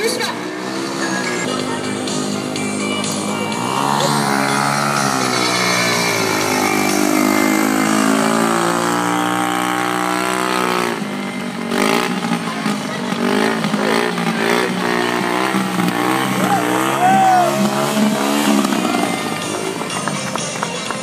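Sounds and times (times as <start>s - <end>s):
motorcycle engine at low throttle: 0.0s - 21.0s.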